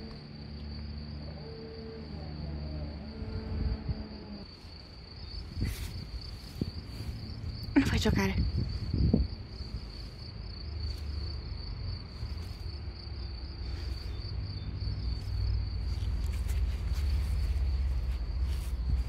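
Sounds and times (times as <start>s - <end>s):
insects trilling: 0.0s - 19.0s
low rumble: 2.0s - 19.0s.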